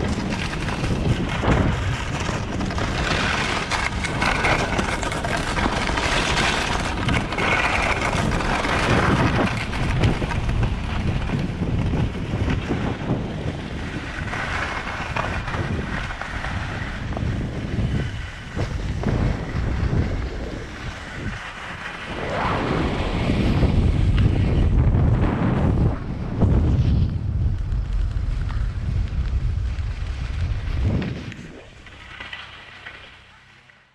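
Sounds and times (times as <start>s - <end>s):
wind buffeting microphone: 0.0s - 32.1s
skis scraping over snow: 0.0s - 33.9s.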